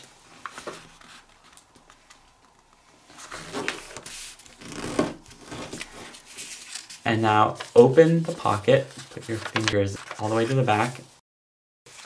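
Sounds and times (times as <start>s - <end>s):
paper rustling and folding: 0.0s - 11.2s.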